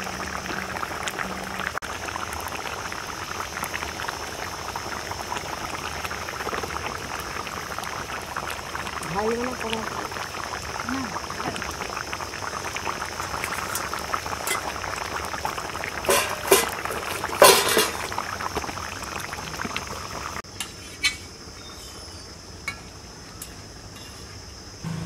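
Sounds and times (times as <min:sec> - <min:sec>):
curry bubbling at a boil: 0:00.0 - 0:24.8.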